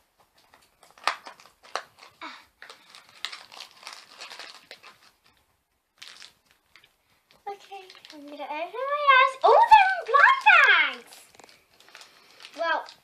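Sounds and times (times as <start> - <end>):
plastic packaging crinkling: 0.2 - 13.0.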